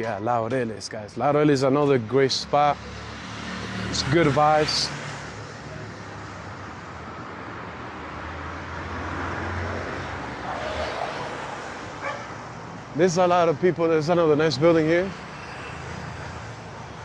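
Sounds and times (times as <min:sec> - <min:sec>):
passing vehicles: 0:00.0 - 0:17.0.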